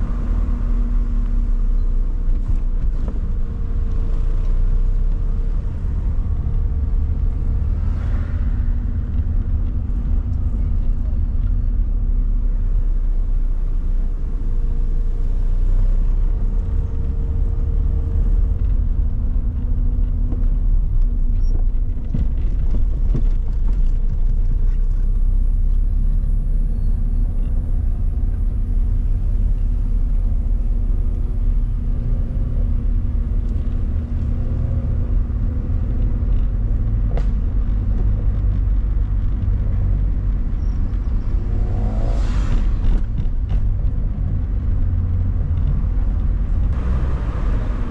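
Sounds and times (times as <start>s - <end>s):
car interior road rumble: 0.0s - 47.9s.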